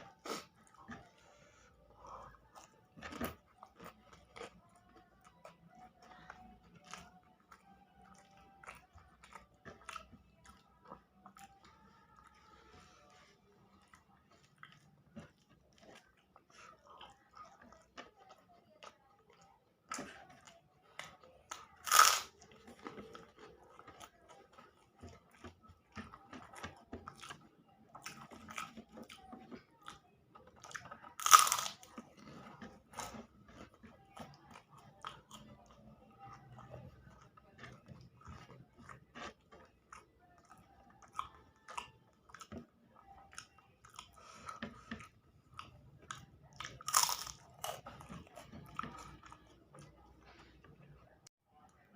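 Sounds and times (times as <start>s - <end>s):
person chewing food: 0.0s - 51.9s.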